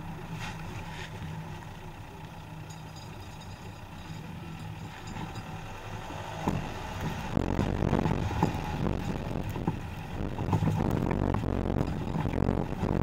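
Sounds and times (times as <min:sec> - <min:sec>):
diesel car engine humming: 0:00.0 - 0:13.0
tyres rumbling on gravel: 0:00.0 - 0:13.0.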